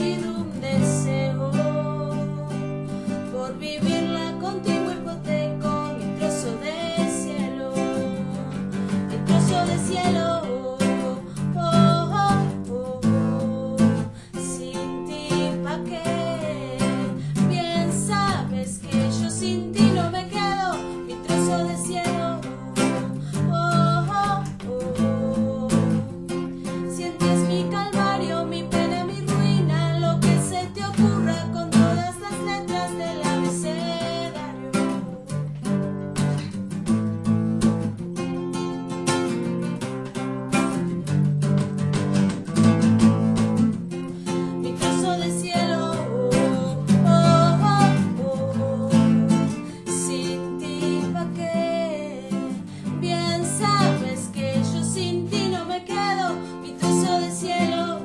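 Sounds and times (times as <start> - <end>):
woman singing: 0.0 - 36.5, 42.2 - 58.0
acoustic guitar strumming: 0.0 - 58.0.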